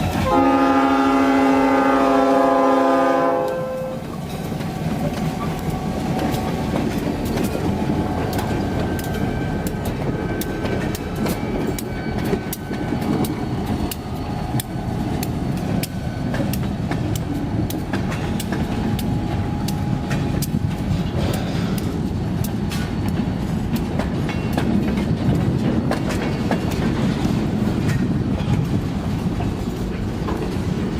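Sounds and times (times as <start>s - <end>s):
freight train rumbling past: 0.0s - 30.9s
train wheels clicking over rail joints: 3.4s - 30.9s.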